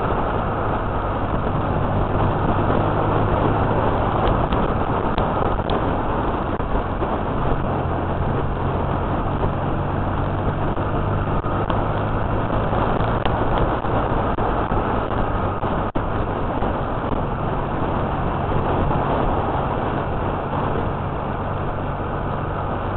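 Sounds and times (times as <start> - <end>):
motorcycle engine hum: 0.0 - 22.9
wind rushing over microphone: 0.0 - 22.9.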